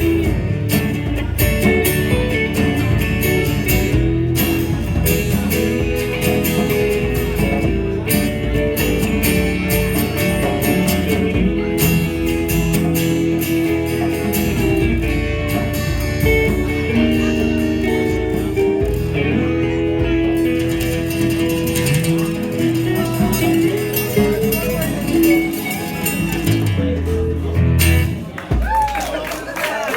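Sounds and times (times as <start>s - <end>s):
live rock band playing: 0.0s - 29.4s.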